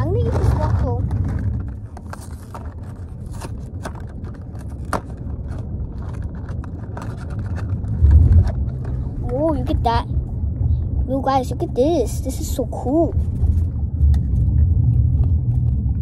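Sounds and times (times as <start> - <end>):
car hum: 0.0 - 16.0.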